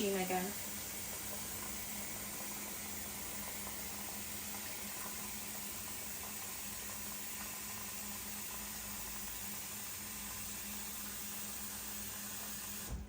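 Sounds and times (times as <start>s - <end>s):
espresso machine humming: 0.0s - 13.0s.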